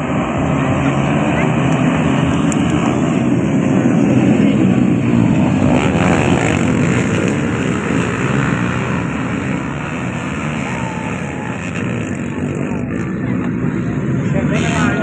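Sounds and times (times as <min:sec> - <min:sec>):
motorcycle engines at high revs: 0:00.0 - 0:15.0.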